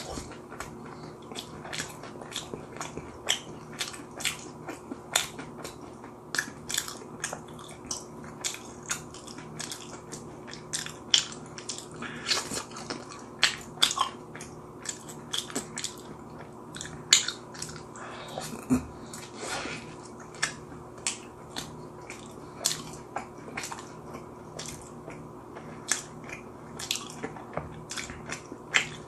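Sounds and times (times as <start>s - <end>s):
chewing food: 0.0s - 29.0s.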